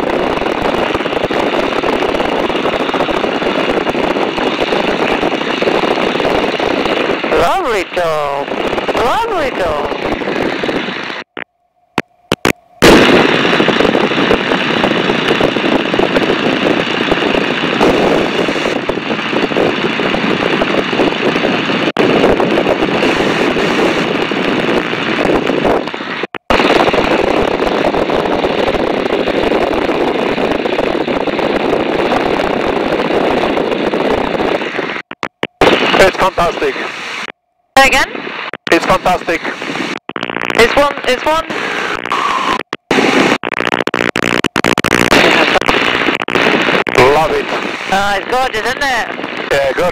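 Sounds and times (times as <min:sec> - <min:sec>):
aircraft engine: 0:00.0 - 0:40.0
wind rush in open cockpit: 0:00.0 - 0:49.9.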